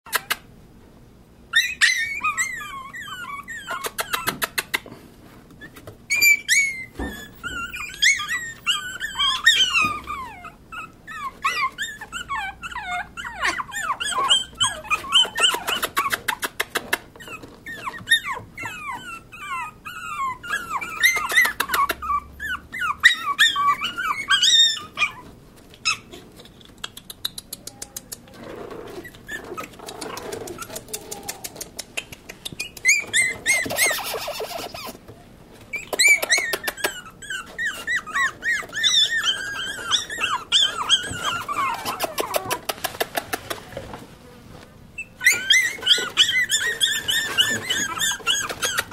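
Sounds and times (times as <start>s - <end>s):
puppies whimpering and whining: 1.4s - 4.8s, 5.5s - 27.4s, 28.3s - 31.8s, 32.5s - 43.8s, 44.9s - 48.9s.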